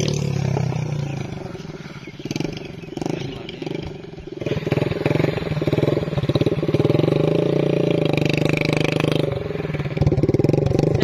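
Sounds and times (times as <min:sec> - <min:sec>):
motorcycle engine passing by: 0:00.0 - 0:11.0.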